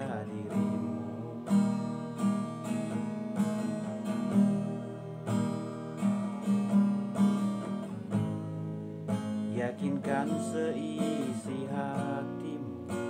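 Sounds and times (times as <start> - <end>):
classical guitar strumming chords: 0.0 - 13.0.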